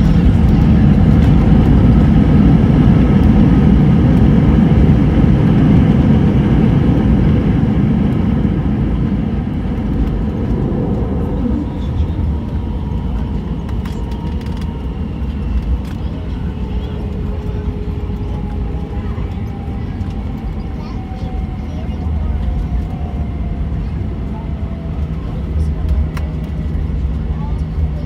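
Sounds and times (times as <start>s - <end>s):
jet engines rumbling: 0.0s - 28.0s
wheels rumbling on runway: 0.0s - 28.0s.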